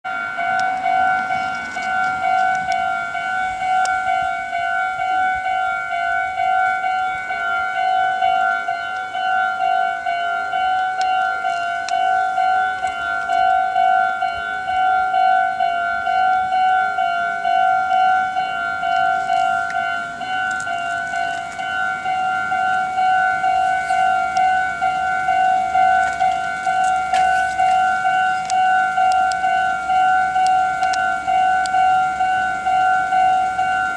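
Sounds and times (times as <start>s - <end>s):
level-crossing warning bell ringing: 0.0s - 33.9s.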